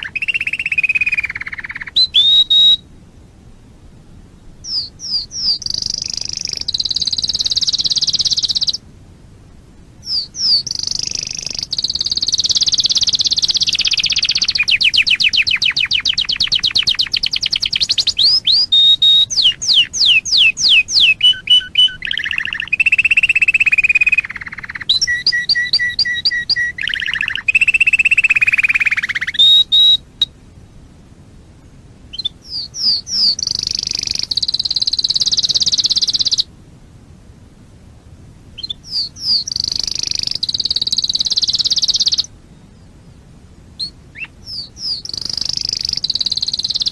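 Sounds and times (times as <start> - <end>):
canary singing: 0.0 - 2.8, 4.5 - 8.8, 10.0 - 30.3, 32.1 - 36.5, 38.6 - 42.9, 43.8 - 46.9.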